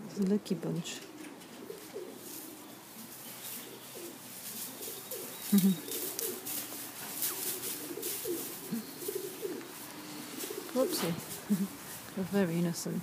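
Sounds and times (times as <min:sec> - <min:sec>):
pigeons cooing: 0:00.8 - 0:12.2.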